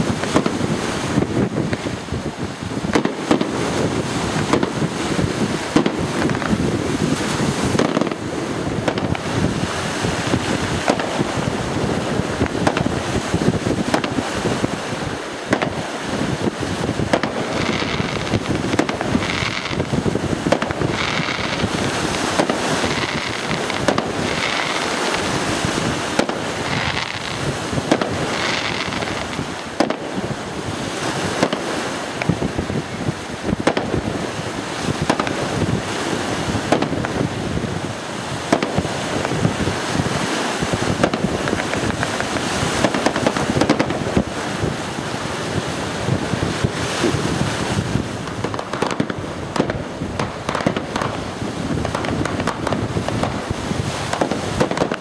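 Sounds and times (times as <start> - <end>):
fireworks bangs and crackles: 0.0 - 55.0
wind rumble on microphone: 0.0 - 55.0.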